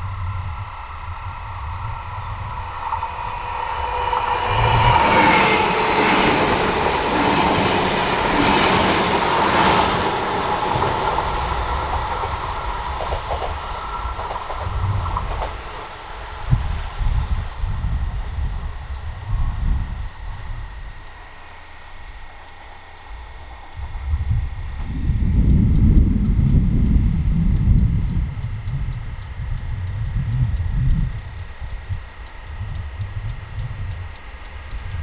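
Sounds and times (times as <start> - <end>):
electric train whine: 0.0 - 35.0
rail and wheel noise: 0.0 - 35.0.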